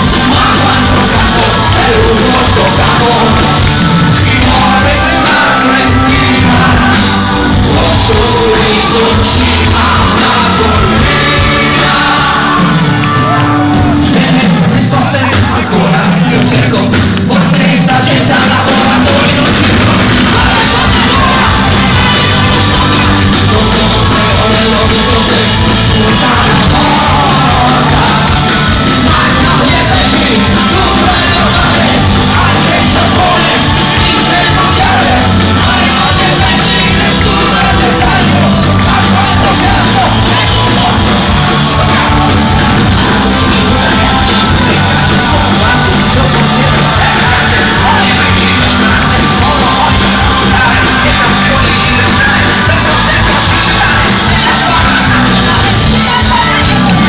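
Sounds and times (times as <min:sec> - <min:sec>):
live rock band playing: 0:00.0 - 0:57.0
shouted and sung vocals: 0:00.0 - 0:57.0.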